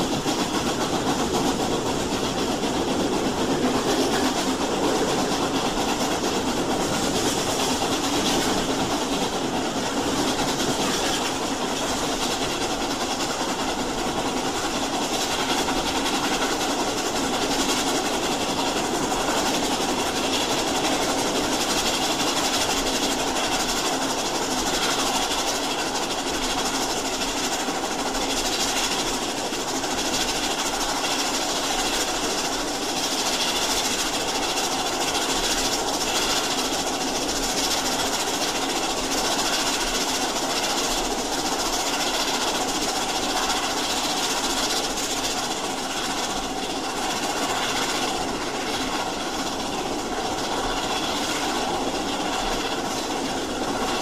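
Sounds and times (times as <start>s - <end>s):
steam locomotive hissing and rumbling: 0.0s - 54.0s.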